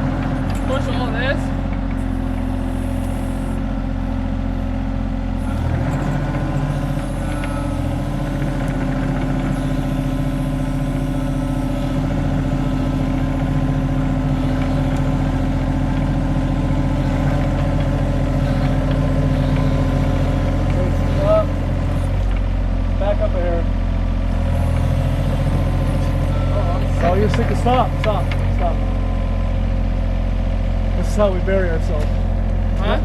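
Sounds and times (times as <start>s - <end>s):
excavator diesel engine droning: 0.0s - 33.0s.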